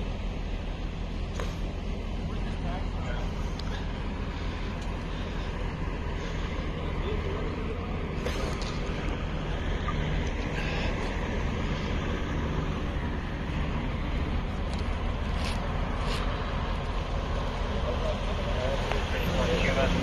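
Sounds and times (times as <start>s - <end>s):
idling vehicles rumble: 0.0s - 20.0s.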